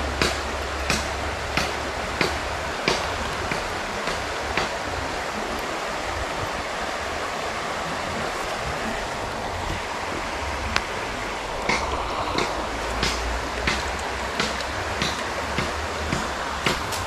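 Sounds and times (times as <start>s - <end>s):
river flowing over rocks: 0.0s - 17.0s.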